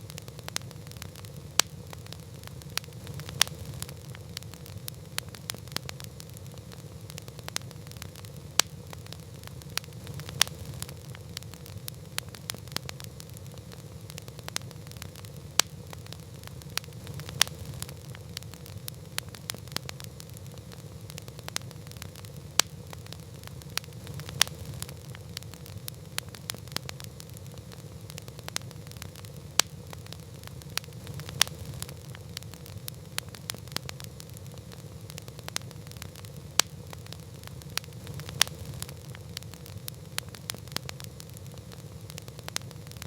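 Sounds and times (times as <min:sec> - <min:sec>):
campfire crackling and popping: 0:00.0 - 0:43.0
fire low rumble: 0:00.0 - 0:43.0.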